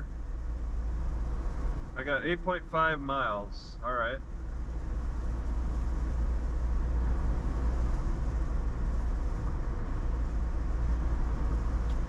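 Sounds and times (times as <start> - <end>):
road noise inside car cabin: 0.0 - 12.0.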